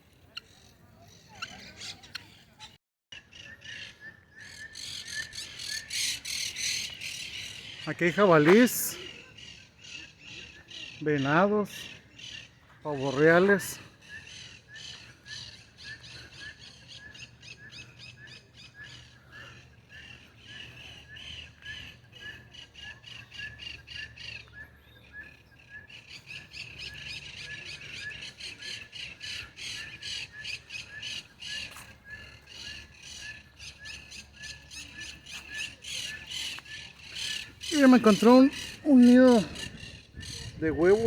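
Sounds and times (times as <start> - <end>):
birds chirping and calling: 0.2 - 41.0.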